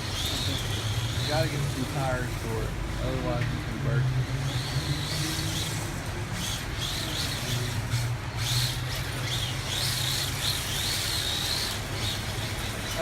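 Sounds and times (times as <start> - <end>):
rc car electric motor whining: 0.0 - 13.0.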